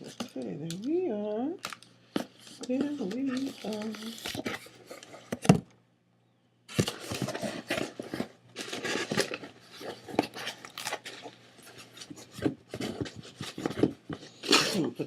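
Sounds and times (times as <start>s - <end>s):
packaging rustling and crinkling: 1.6s - 5.6s, 6.7s - 15.0s.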